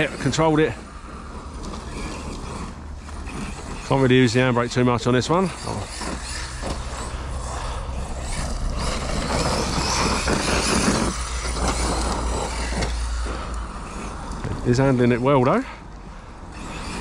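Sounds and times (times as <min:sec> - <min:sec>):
rc car motor whirring: 0:00.0 - 0:17.0
tyres on dirt: 0:00.0 - 0:17.0.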